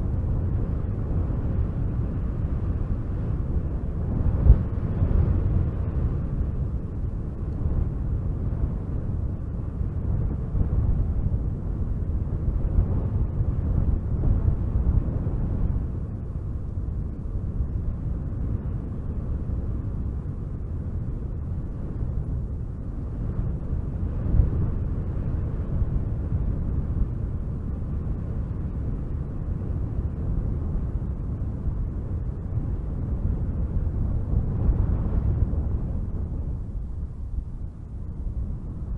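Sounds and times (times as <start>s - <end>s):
wind blowing in gusts: 0.0s - 38.9s.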